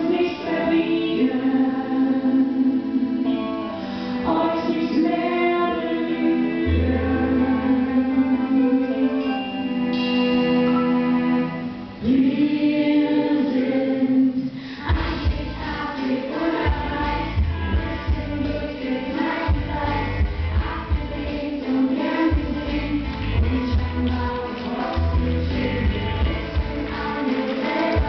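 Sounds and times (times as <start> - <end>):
pop song singing: 0.0 - 9.4, 12.0 - 28.0
choir-like backing vocals: 0.0 - 28.0.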